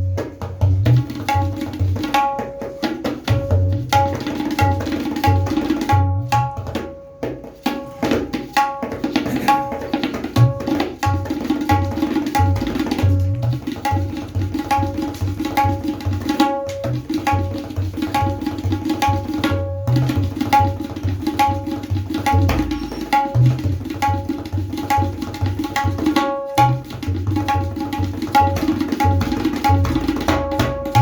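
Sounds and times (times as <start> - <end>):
tabla drumming: 0.0 - 31.0.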